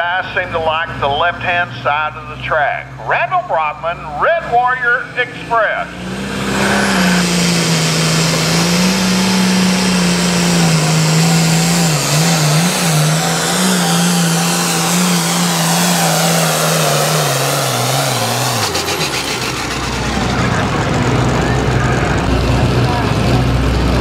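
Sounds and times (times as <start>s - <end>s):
diesel tractor engine at full throttle: 0.0s - 24.0s.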